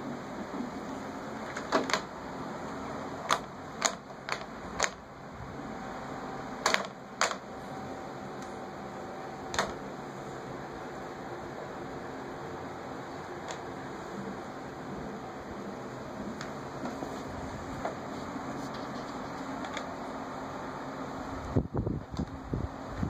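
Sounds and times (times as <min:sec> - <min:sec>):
electric fan humming: 0:00.0 - 0:23.0.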